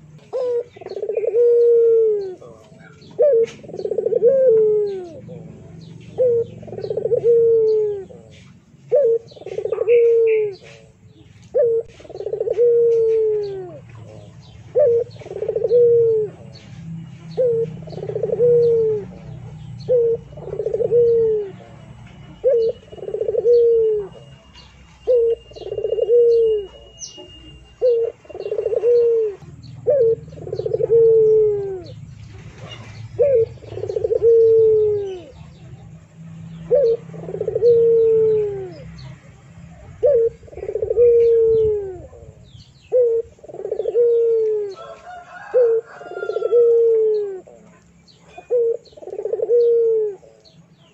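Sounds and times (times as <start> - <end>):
bird cooing: 0.0 - 50.9
faint bird chirping: 0.0 - 50.9.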